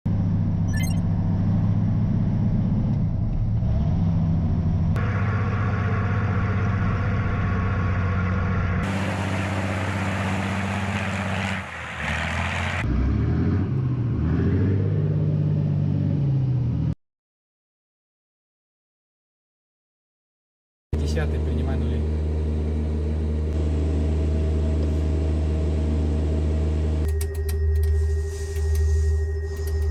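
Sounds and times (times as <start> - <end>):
truck engine droning: 0.1 - 17.0, 21.0 - 29.9.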